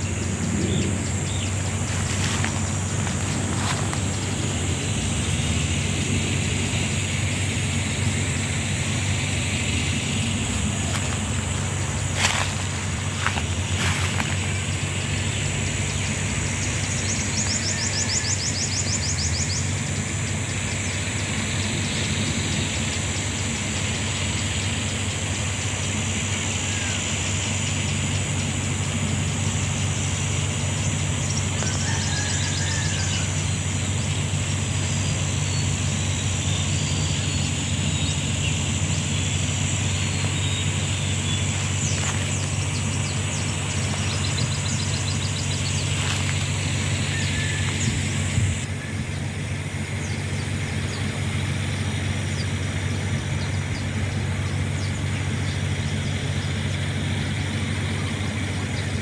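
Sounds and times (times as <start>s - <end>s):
high insect buzz: 0.0s - 48.7s
steady low hum: 0.0s - 59.0s.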